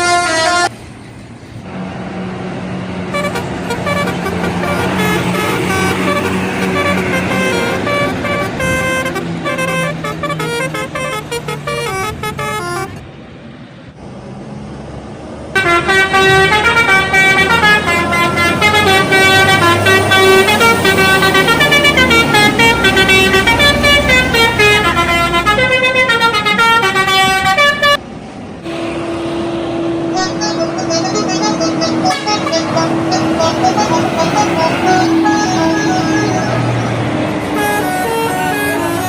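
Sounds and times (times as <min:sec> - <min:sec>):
tuned air horns playing a tune: 0:00.0 - 0:00.7, 0:03.1 - 0:13.0, 0:15.6 - 0:28.0, 0:28.7 - 0:39.0
bus engine rumbling: 0:00.0 - 0:39.0.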